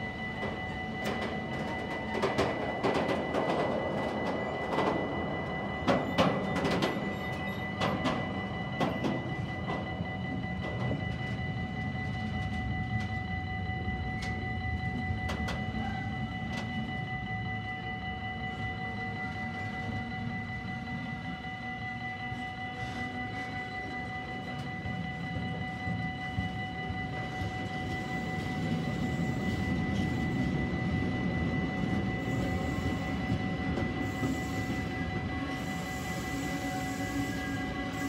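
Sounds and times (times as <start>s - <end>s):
steady high-pitched tone: 0.0s - 38.0s
steel wheels rumbling on rails: 0.0s - 38.0s.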